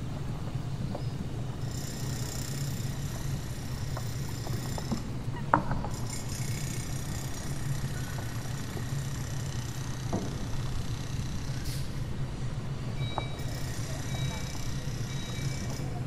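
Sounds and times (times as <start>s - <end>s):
ferry engines droning: 0.0s - 16.0s.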